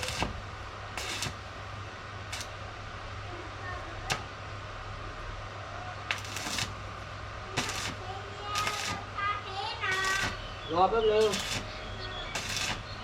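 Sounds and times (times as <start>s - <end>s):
arc welder crackling: 0.0s - 5.3s, 6.0s - 13.0s
electrical hum: 0.0s - 13.0s.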